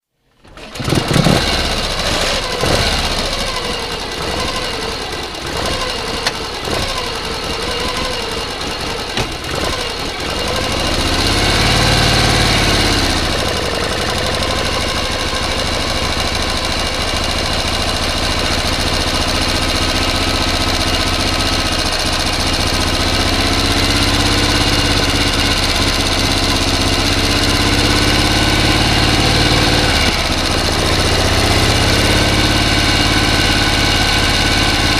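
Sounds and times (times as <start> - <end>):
combustion engine running and revving: 0.4 - 34.9.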